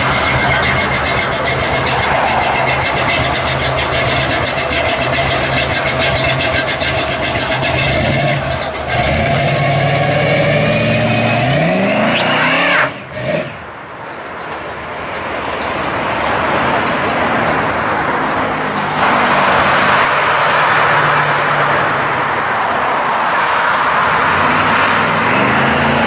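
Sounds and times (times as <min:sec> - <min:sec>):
truck engine idling and revving: 0:00.0 - 0:26.0.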